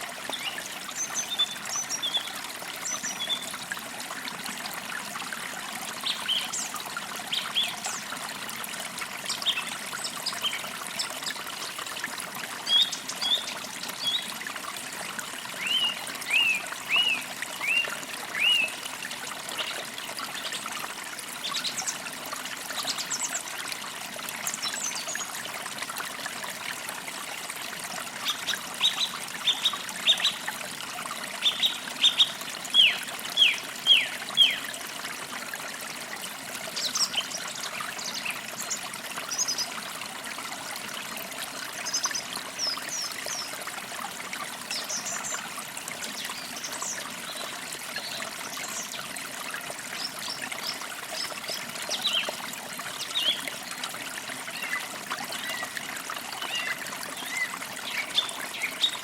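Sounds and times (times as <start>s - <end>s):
creek trickling and burbling: 0.0s - 59.0s.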